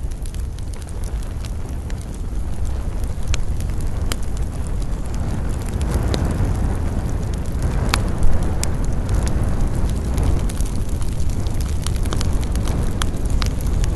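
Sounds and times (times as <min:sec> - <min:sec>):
campfire crackling and popping: 0:00.0 - 0:13.9
low rumble of wind: 0:00.0 - 0:13.9.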